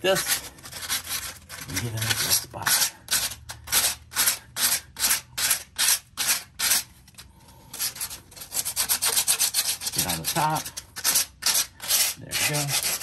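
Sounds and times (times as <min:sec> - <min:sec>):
sanding disc rasping on concrete: 0:00.0 - 0:06.9, 0:07.7 - 0:13.0.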